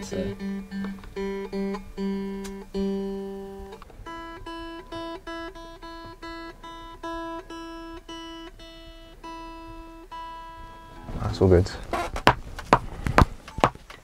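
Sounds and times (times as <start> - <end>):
electric guitar string plucked: 0.0 - 12.4.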